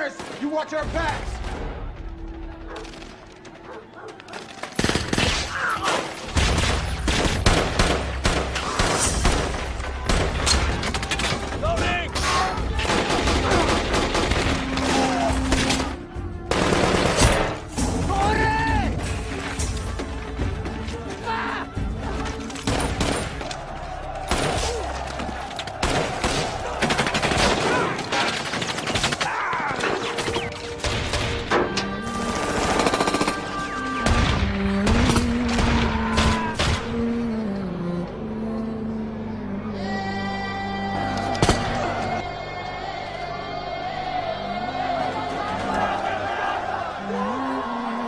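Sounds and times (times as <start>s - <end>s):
film music score: 0.0s - 48.0s.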